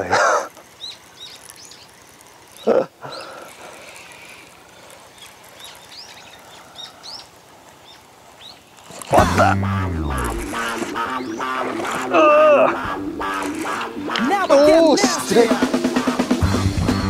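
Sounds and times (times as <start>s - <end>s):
outdoor background noise: 0.0s - 17.0s
small birds chirping: 0.0s - 17.0s.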